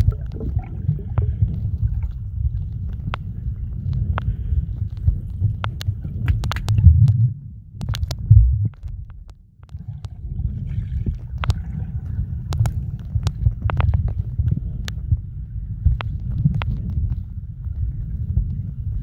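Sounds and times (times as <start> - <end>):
underwater clicks: 0.0 - 10.2, 11.0 - 15.2, 15.8 - 18.6
underwater churning rumble: 0.0 - 19.0.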